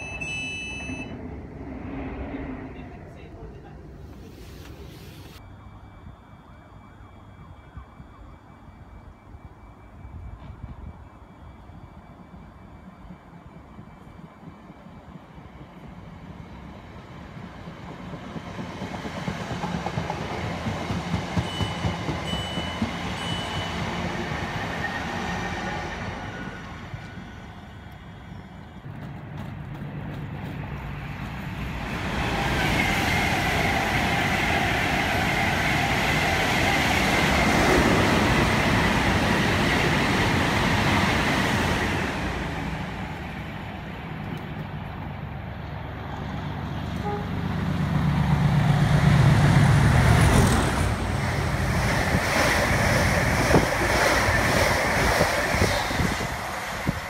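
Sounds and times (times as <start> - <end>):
train rushing past: 0.0 - 5.6, 10.4 - 57.0
train wheel and rail noise: 0.0 - 57.0.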